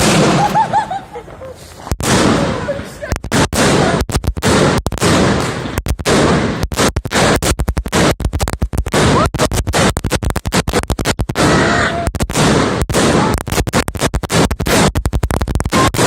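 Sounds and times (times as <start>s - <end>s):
firecracker string crackling: 0.0s - 16.0s.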